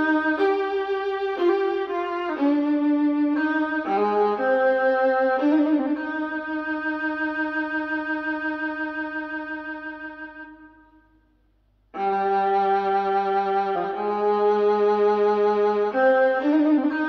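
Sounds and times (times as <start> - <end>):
violin music through speaker: 0.0 - 10.8, 12.0 - 17.0.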